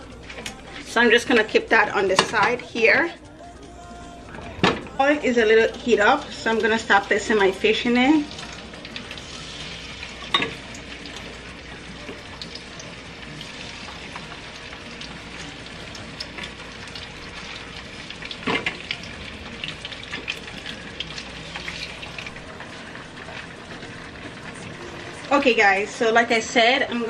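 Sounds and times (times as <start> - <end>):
fish frying in hot oil: 4.7 - 27.0.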